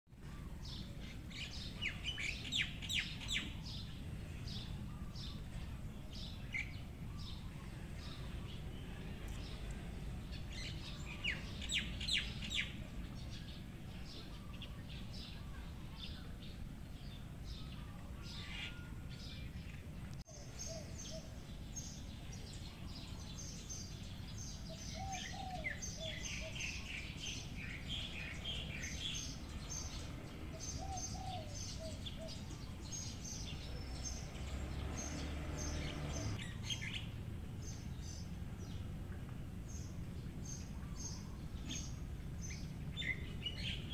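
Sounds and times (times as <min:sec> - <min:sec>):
small birds chirping: 0:00.1 - 0:43.9.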